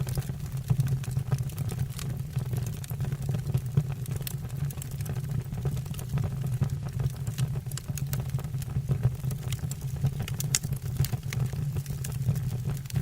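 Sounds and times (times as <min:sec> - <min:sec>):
fire flames rumbling: 0:00.0 - 0:13.0
logs crackling and popping: 0:00.0 - 0:13.0.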